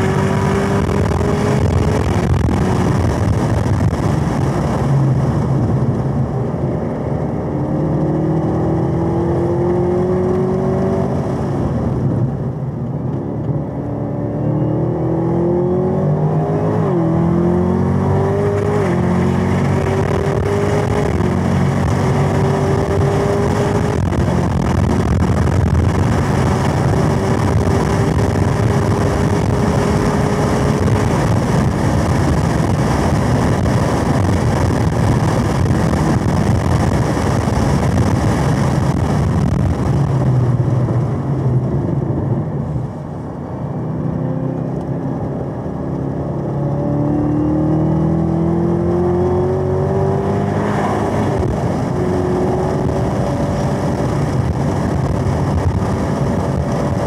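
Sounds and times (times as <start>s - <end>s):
engine at full throttle: 0.0s - 12.5s, 13.4s - 57.0s.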